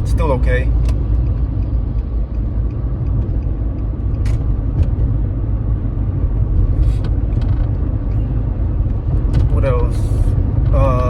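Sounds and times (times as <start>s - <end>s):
car driving interior rumble: 0.0s - 11.0s.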